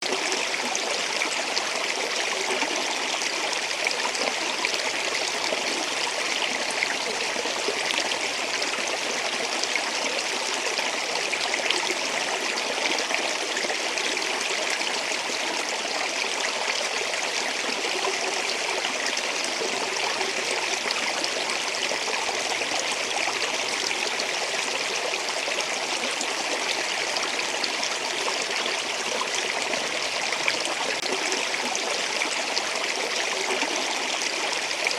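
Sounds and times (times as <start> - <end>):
flowing water: 0.0 - 34.9.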